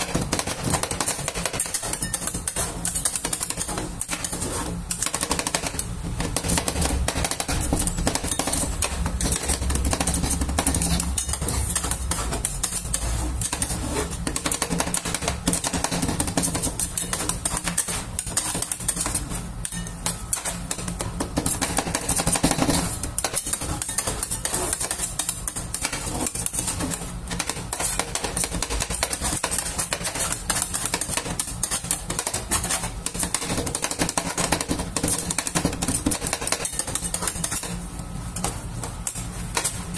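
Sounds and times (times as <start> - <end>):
metal spatulas chopping and scraping: 0.0 - 39.9.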